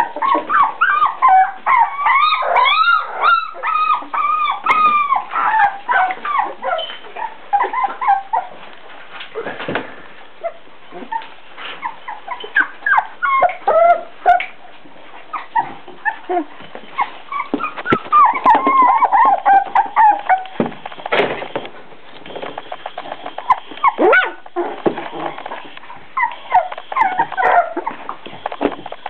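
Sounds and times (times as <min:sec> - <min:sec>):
puppies whimpering and yipping: 0:00.0 - 0:08.7, 0:10.4 - 0:20.7, 0:23.0 - 0:28.8.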